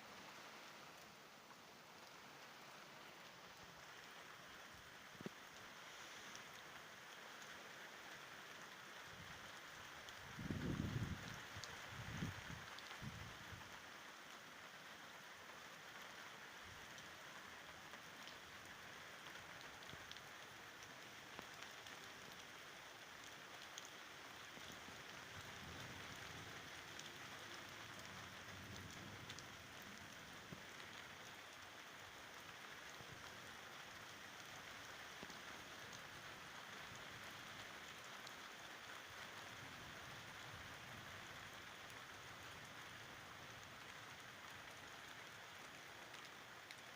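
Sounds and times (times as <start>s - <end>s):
faint steady rain: 0.0s - 46.9s.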